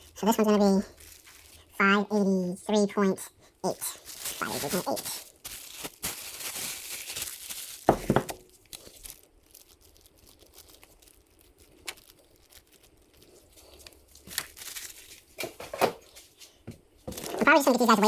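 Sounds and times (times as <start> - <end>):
rustling: 0.8 - 1.7, 3.7 - 18.0.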